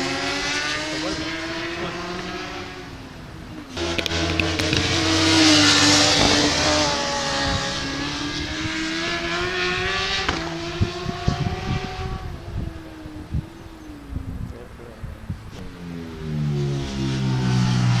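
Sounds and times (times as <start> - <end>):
racing motorcycles passing: 0.0 - 18.0.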